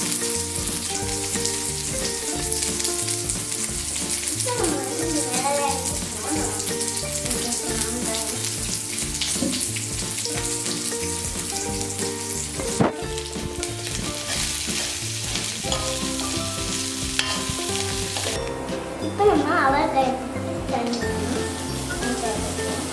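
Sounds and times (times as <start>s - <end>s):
background music: 0.0s - 22.9s
onions sizzling in oil: 0.0s - 22.9s.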